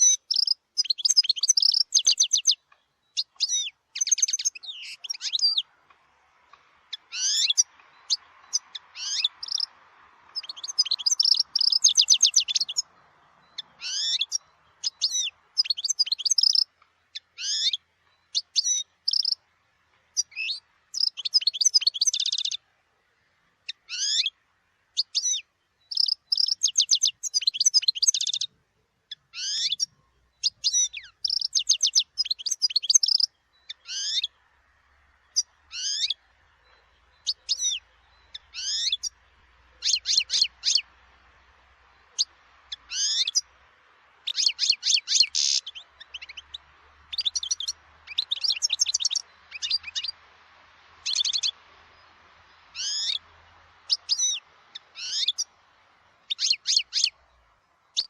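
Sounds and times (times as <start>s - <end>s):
goldfinch singing: 0.0s - 22.7s, 23.6s - 28.5s, 29.1s - 58.0s
faint steady background noise: 0.0s - 58.0s.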